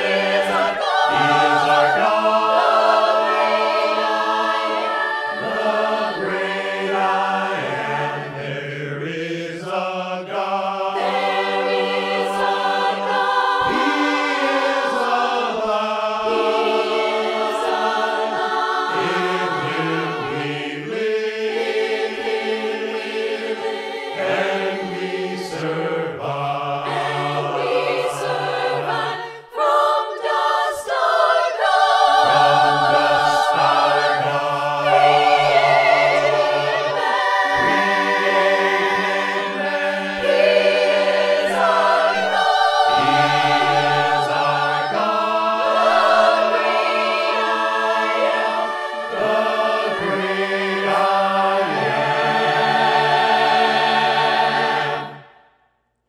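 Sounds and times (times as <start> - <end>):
choir singing a hymn: 0.0 - 55.5.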